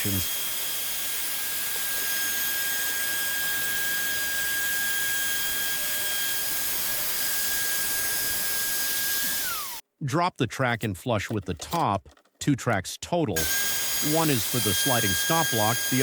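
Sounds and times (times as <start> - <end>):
router cutting groove: 0.0 - 9.8, 10.7 - 16.0.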